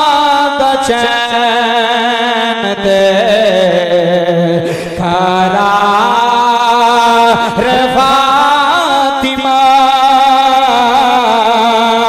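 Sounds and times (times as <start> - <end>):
man singing devotional verse: 0.0 - 12.0.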